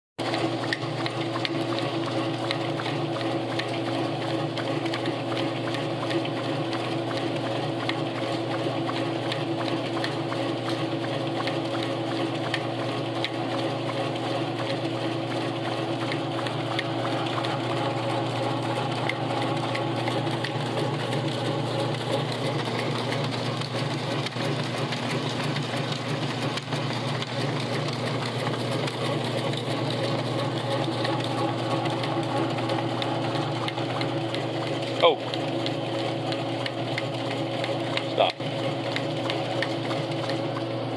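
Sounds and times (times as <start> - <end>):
machine motor hum: 0.2 - 40.9.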